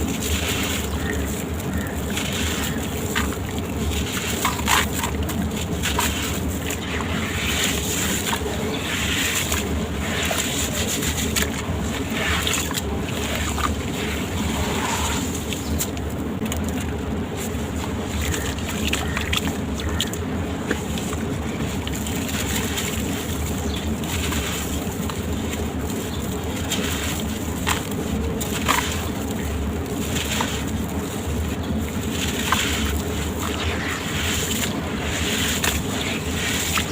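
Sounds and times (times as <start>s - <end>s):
gritty crumbling crackles: 0.0s - 36.9s
steady low rumble: 0.0s - 36.9s.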